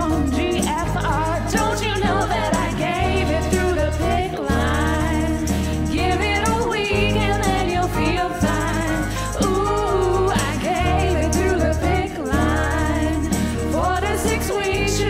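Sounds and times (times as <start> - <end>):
instrumental accompaniment with bass: 0.0 - 15.0
voices singing: 0.0 - 15.0.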